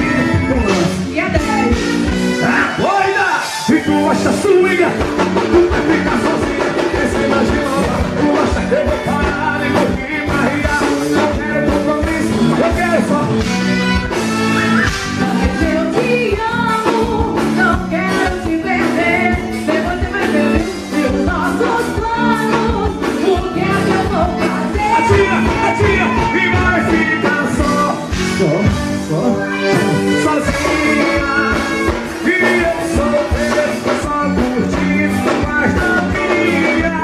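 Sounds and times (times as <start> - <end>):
live band dance music: 0.0 - 37.0.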